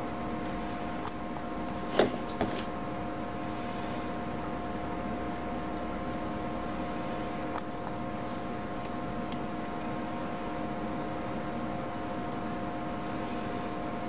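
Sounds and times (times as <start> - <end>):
steady hiss and electrical hum: 0.0 - 14.0.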